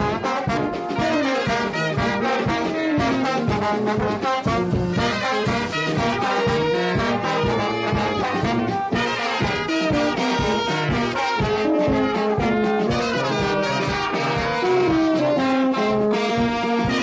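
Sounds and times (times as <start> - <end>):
brass band playing: 0.0 - 17.0
percussion beat: 0.0 - 17.0.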